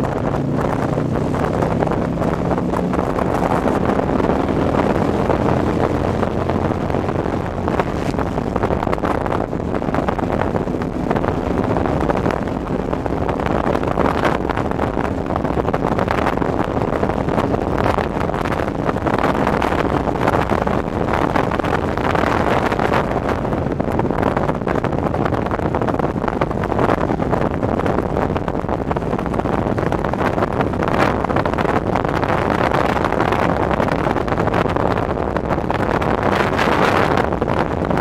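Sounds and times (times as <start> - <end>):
motorcycle engine hum: 0.0 - 38.0
tyres on road: 0.0 - 38.0
wind rushing over microphone: 0.0 - 38.0.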